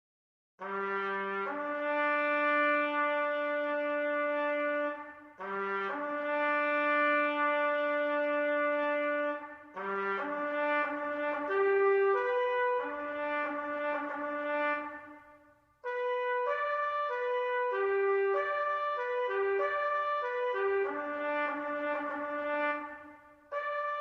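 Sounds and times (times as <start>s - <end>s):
solo brass instrument playing: 0.6s - 24.0s.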